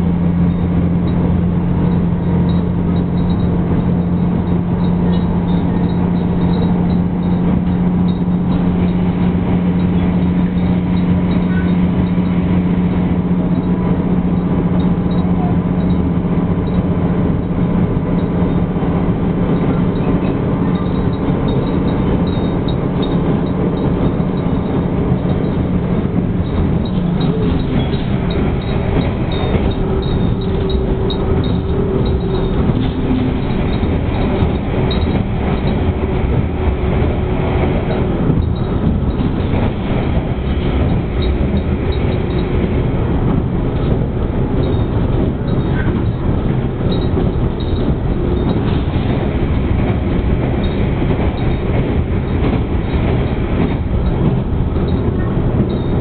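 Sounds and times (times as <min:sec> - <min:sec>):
diesel engine drone: 0:00.0 - 0:56.0
wheel and rail noise: 0:00.0 - 0:56.0.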